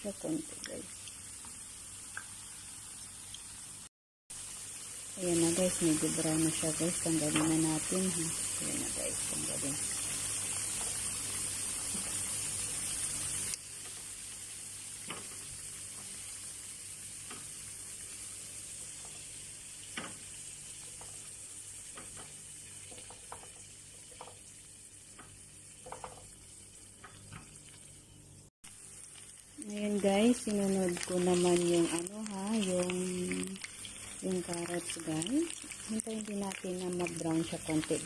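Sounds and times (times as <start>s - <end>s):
potatoes sizzling in hot oil: 0.0s - 38.0s.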